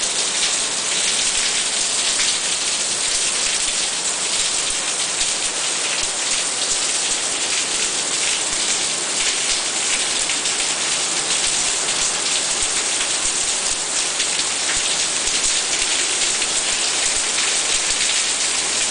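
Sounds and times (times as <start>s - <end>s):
rain on a tiled roof: 0.0s - 18.9s.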